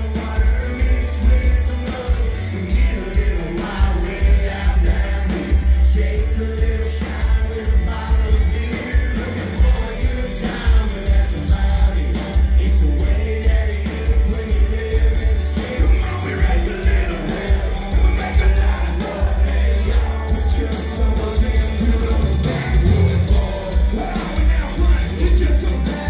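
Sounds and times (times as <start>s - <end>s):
country-rock band playing: 0.0s - 26.0s
person singing: 0.0s - 26.0s.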